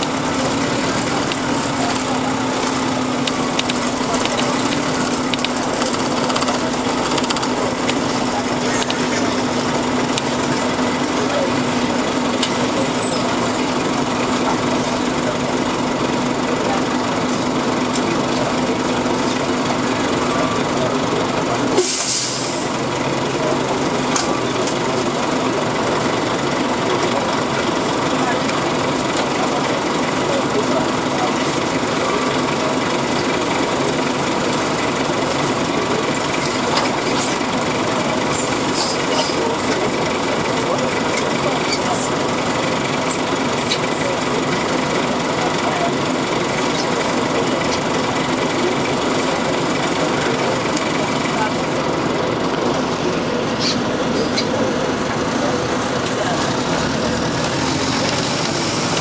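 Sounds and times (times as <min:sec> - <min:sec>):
bus engine running: 0:00.0 - 0:59.0
road noise: 0:00.0 - 0:59.0.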